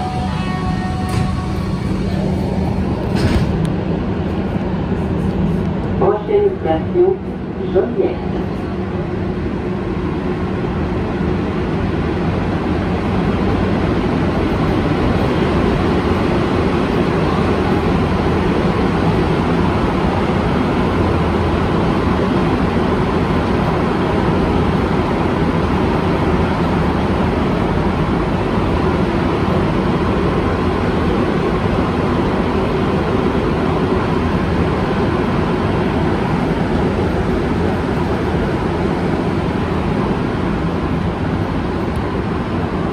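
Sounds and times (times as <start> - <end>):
rubber-tyred train rumbling: 0.0 - 42.9.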